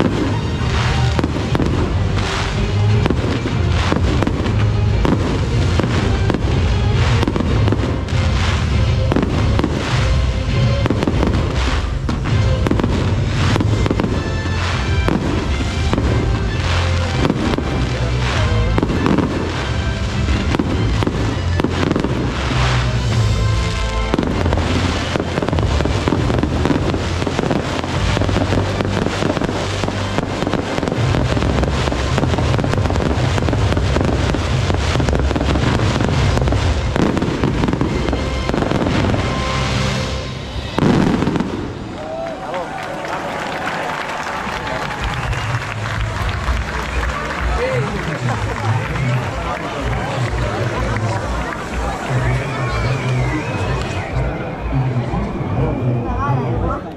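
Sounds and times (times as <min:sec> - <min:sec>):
fireworks bursting and crackling: 0:00.0 - 0:56.9.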